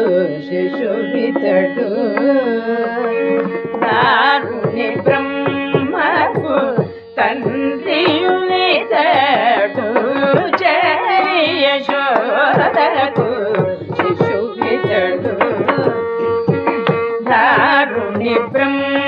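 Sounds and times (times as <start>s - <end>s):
ornamented melody: 0.0s - 19.0s
drum strokes: 3.4s - 19.0s.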